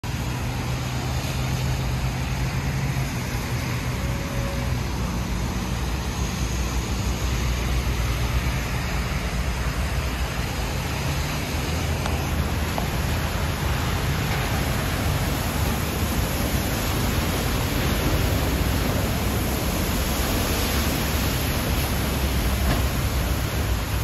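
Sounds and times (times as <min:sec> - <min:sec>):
heavy rain falling: 0:00.0 - 0:24.0
traffic engine hum: 0:00.0 - 0:24.0.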